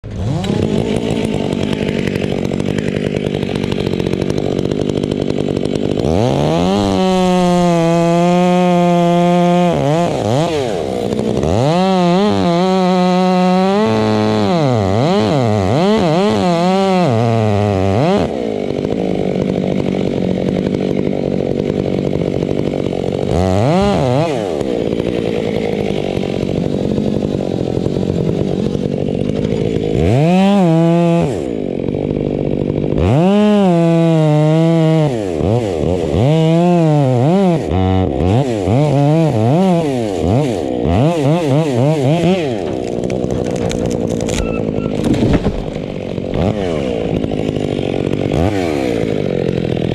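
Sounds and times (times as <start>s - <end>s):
chainsaw cutting tree trunk: 0.0s - 49.9s.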